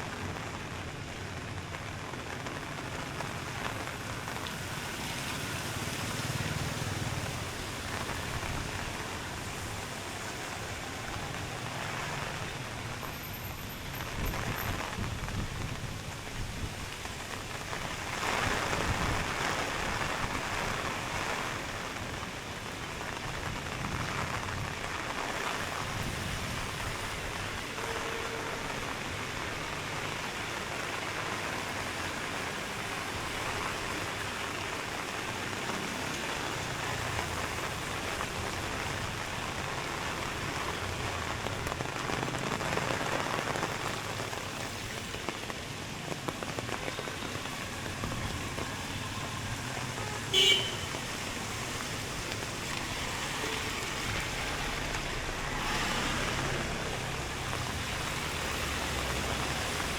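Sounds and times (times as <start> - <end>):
rain on a wet street: 0.0 - 59.9.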